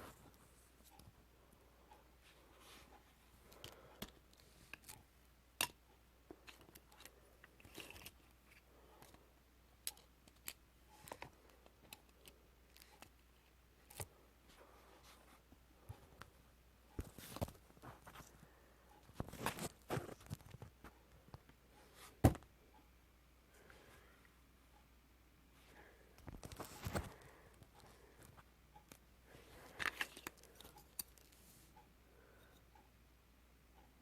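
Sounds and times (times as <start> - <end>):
low steady hum: 0.0 - 34.0
faint irregular clicks: 0.1 - 25.0, 25.8 - 33.1.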